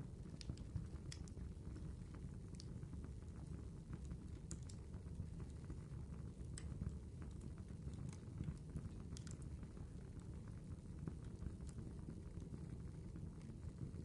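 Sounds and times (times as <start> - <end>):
fire crackles and pops: 0.0 - 14.0
low rumble of fire flames: 0.0 - 14.0.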